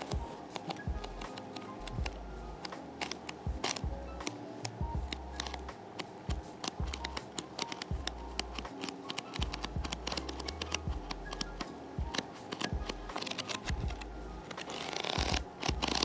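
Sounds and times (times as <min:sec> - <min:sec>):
paper pages flipping: 0:00.0 - 0:16.0.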